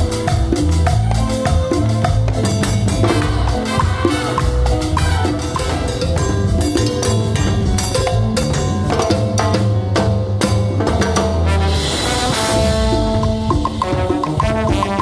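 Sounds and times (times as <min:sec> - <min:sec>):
band playing salsa music: 0:00.0 - 0:15.0
steady bass line: 0:00.0 - 0:15.0.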